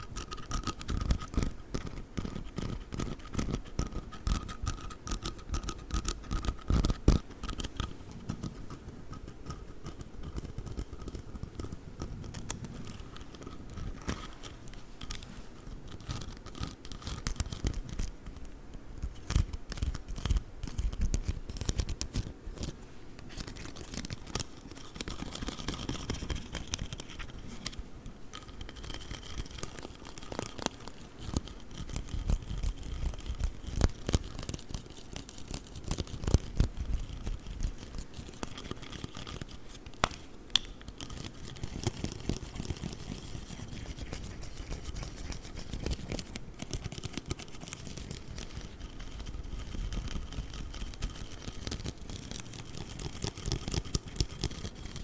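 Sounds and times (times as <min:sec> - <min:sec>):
tapping and scratching on a ruler: 0:00.0 - 0:55.0.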